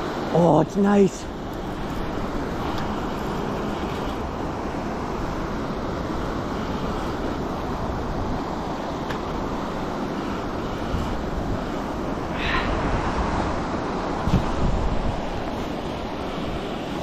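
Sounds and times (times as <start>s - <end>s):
river rushing over rocks: 0.0s - 17.0s
wind rumble on microphone: 0.0s - 17.0s.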